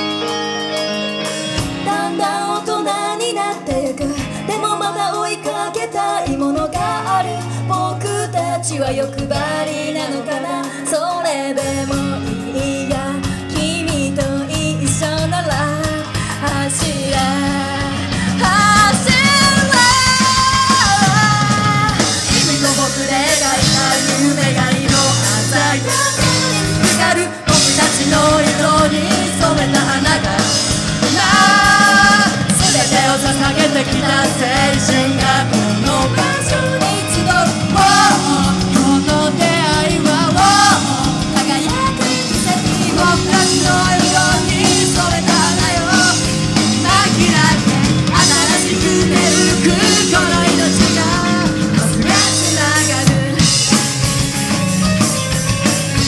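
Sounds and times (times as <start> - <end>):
bass guitar: 0.0 - 56.0
drum kit: 0.0 - 56.0
electric guitar: 0.0 - 56.0
keyboard: 0.0 - 56.0
woman singing: 1.6 - 53.9.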